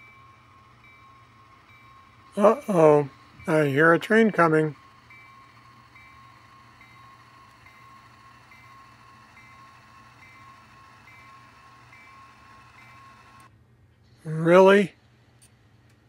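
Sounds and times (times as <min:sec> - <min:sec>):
locomotive bell ringing: 0:00.0 - 0:13.5
steady tone: 0:00.0 - 0:13.5
low engine hum: 0:00.0 - 0:14.2.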